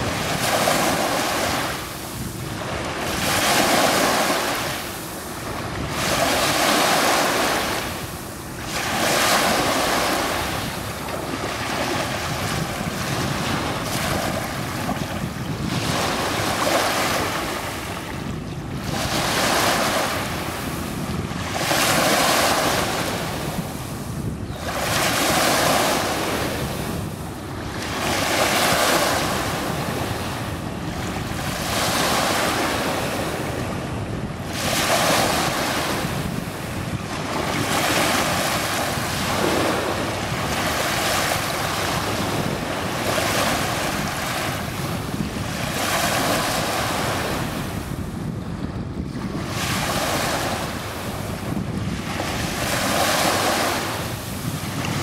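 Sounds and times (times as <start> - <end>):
waves washing up a sandy beach: 0.0 - 55.0.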